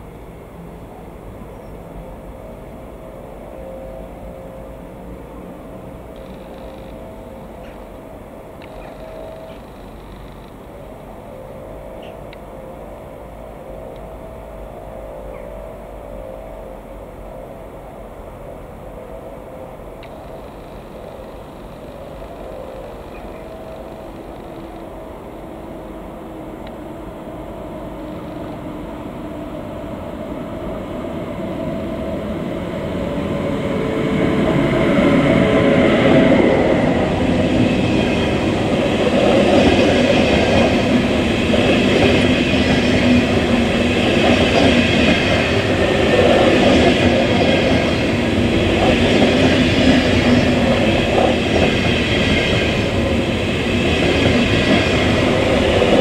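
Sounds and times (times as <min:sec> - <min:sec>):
train running past: 0:00.0 - 0:56.0
wheel and rail noise: 0:00.0 - 0:56.0.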